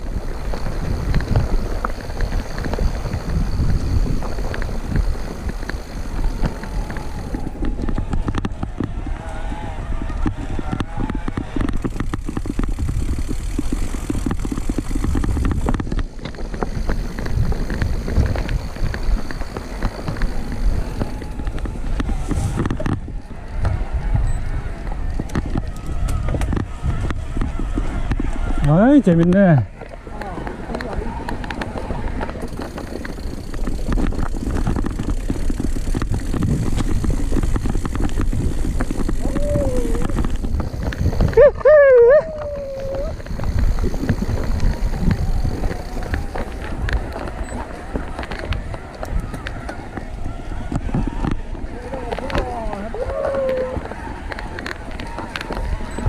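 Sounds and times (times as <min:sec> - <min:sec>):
bike rattling knocks and clicks: 0:00.0 - 0:56.0
bike tyre rumble: 0:00.0 - 0:56.0.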